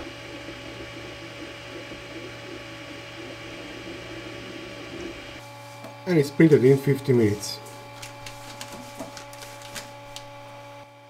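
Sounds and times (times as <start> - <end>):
cooling fans humming: 0.0 - 11.0.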